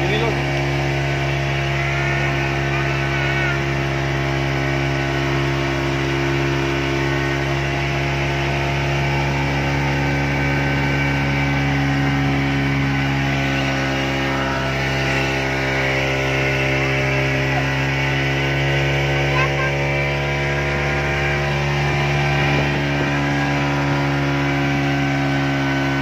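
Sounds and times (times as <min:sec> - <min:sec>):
speedboat engine humming: 0:00.0 - 0:26.0.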